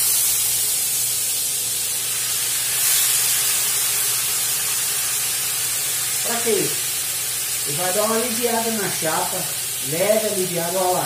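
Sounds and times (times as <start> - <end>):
liquid hissing in hot pan: 0.0 - 11.0.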